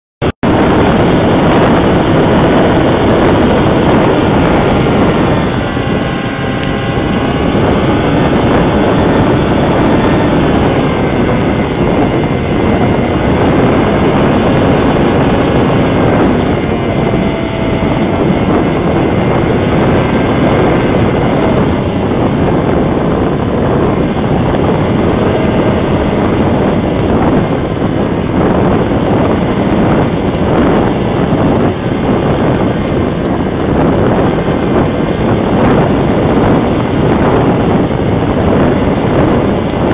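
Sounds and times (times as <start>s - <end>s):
wind buffeting microphone: 0.3s - 39.9s
model plane motor whine: 0.5s - 39.9s.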